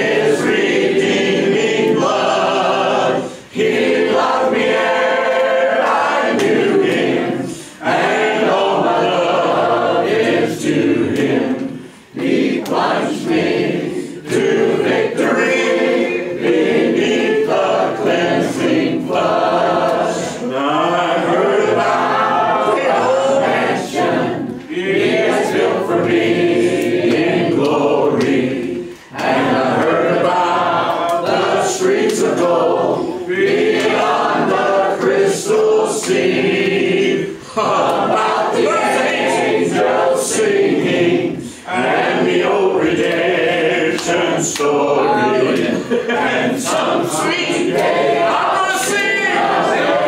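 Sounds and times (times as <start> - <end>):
congregation singing a hymn: 0.0 - 50.0.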